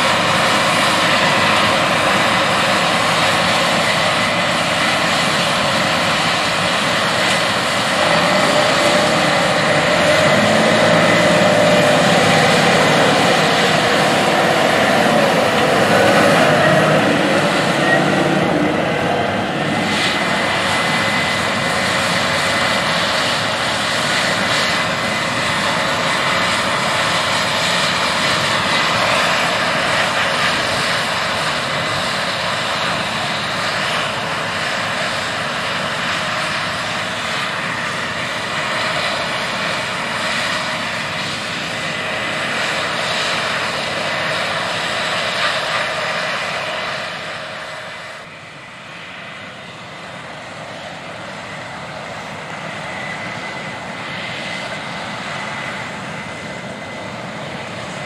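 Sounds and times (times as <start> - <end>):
combine harvester machine drone: 0.0 - 58.0.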